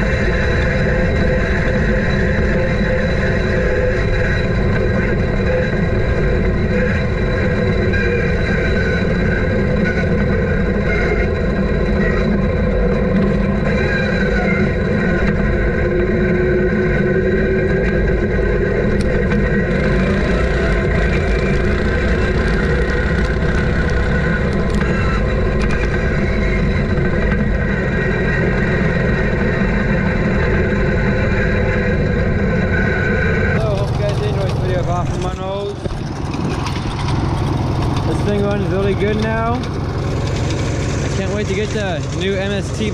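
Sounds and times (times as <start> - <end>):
lawn tractor engine running: 0.0 - 42.9.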